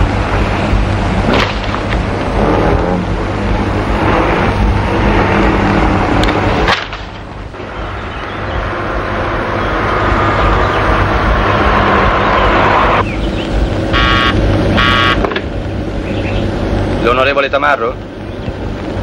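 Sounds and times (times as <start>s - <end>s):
loud steady noise: 0.0s - 19.0s.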